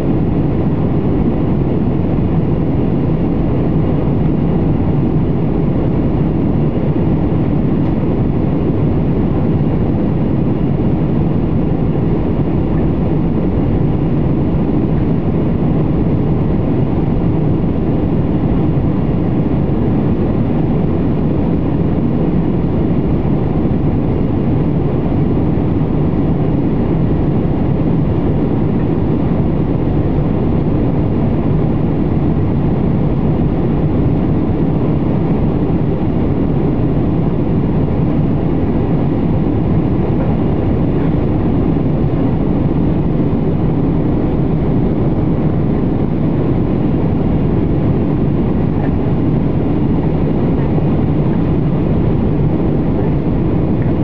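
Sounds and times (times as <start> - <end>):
airliner cabin engine rush: 0.0 - 54.0.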